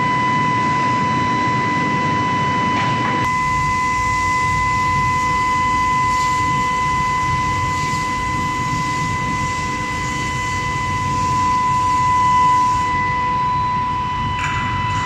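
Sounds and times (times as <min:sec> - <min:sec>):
induction coil high-pitched whine: 0:00.0 - 0:15.0.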